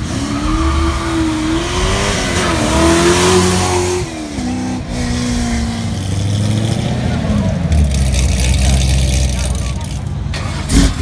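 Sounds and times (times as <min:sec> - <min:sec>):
car engine revving: 0:00.0 - 0:11.0
exhaust rush: 0:00.0 - 0:11.0.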